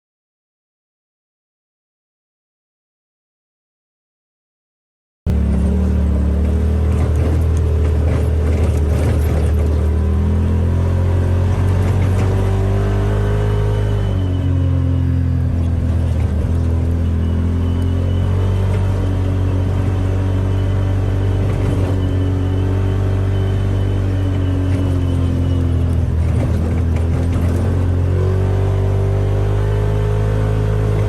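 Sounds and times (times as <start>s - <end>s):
vehicle engine running: 5.3s - 31.0s.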